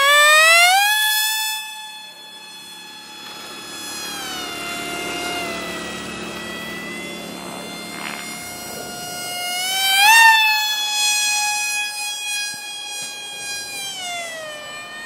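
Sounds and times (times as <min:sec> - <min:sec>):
electric motor and propeller whine: 0:00.0 - 0:15.0.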